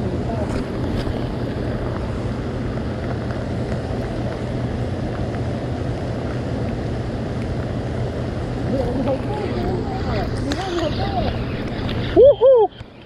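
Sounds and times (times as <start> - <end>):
low hum and rumble: 0.0 - 13.0.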